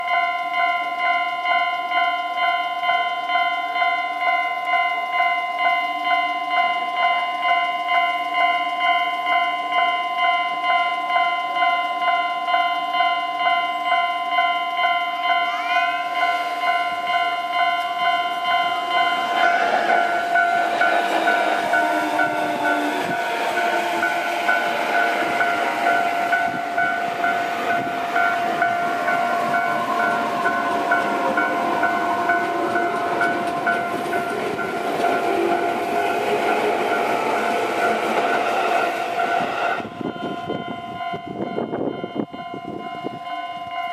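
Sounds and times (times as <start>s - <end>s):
level crossing warning bell: 0.0s - 43.9s
train running on rails: 0.0s - 43.9s.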